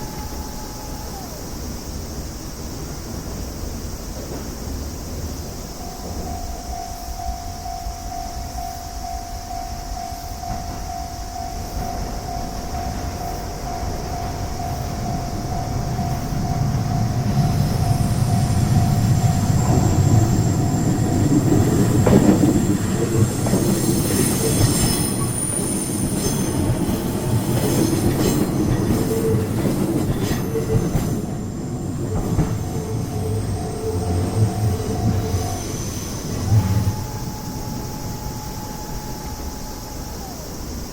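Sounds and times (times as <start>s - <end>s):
train wheel squeal: 0.0s - 1.9s, 5.3s - 40.9s
electric train rumbling past: 0.0s - 40.9s
level crossing warning bell: 5.7s - 40.9s.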